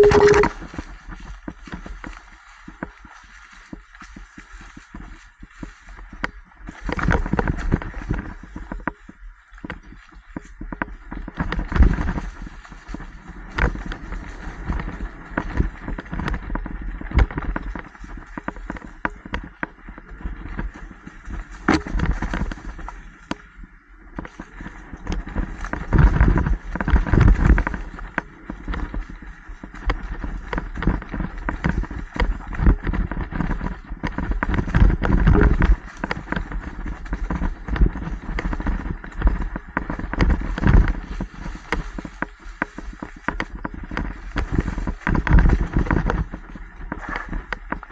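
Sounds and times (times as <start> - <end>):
bike tyres crunching on dirt: 0.0 - 47.9.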